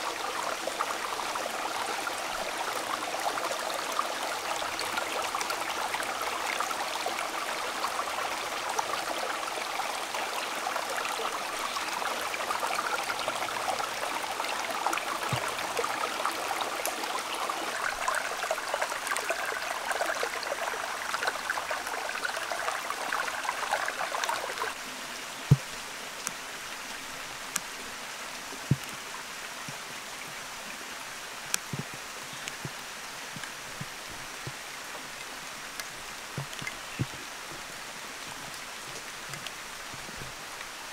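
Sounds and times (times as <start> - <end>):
steady hiss: 0.0 - 40.9
stream babbling over rocks: 0.0 - 40.9.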